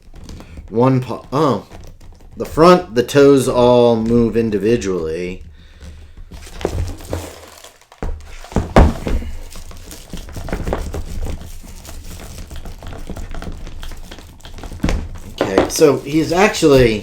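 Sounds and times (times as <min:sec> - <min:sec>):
plastic crinkling: 0:00.0 - 0:17.0.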